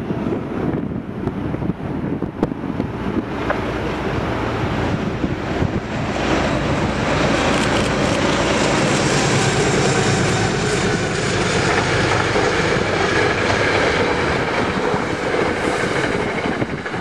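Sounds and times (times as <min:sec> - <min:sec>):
train approaching: 0:00.0 - 0:17.0
wind buffeting microphone: 0:00.0 - 0:17.0.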